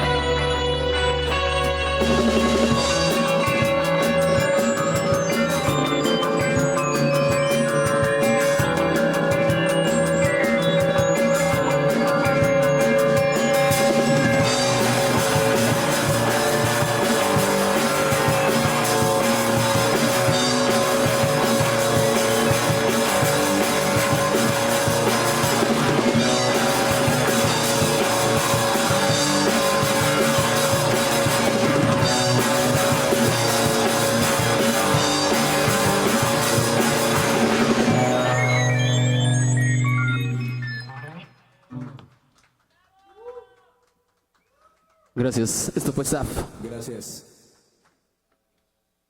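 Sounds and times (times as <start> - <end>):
rock music: 0.0 - 41.2.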